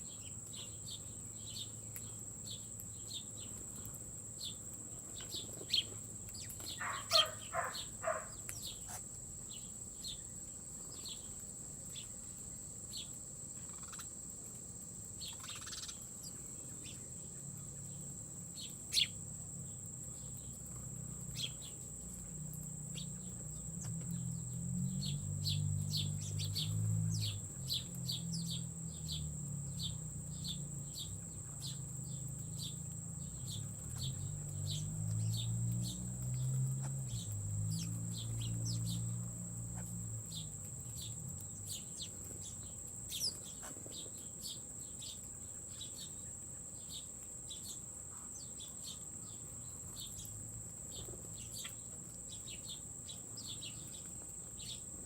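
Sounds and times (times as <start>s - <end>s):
bird chirping: 0.0s - 14.1s, 15.2s - 55.0s
insects buzzing: 0.0s - 55.0s.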